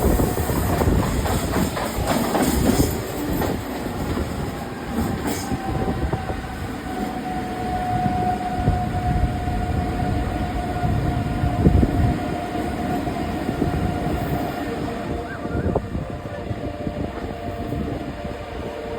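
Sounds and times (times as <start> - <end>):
train rumble and wheel clatter: 0.0 - 18.9.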